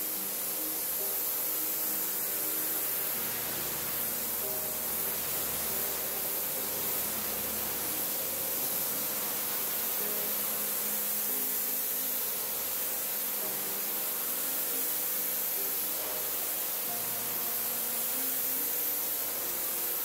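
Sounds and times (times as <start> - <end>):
pressure washer spraying rug: 0.0 - 20.0.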